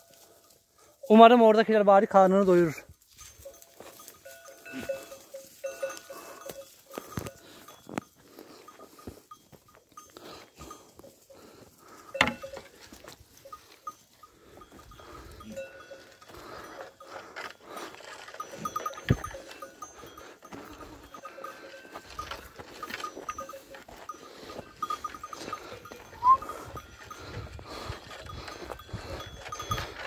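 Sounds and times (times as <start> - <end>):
goat bells clinking: 0.0 - 30.0.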